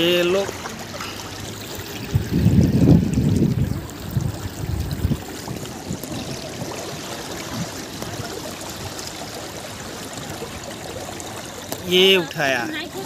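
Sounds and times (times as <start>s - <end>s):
river water lapping over stones: 0.0s - 13.0s.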